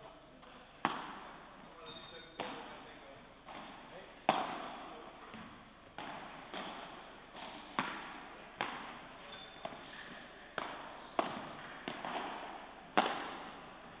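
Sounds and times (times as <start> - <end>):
ball bouncing off court and walls: 0.4 - 14.0
rackets striking ball: 0.4 - 14.0.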